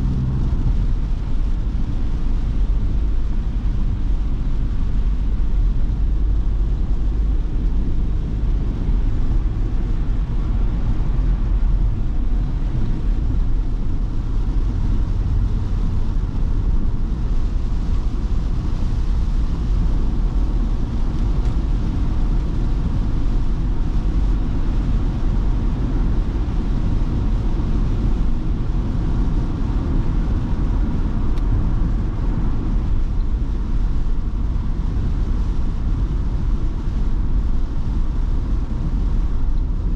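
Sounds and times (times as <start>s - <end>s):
van engine and road noise: 0.0s - 39.9s.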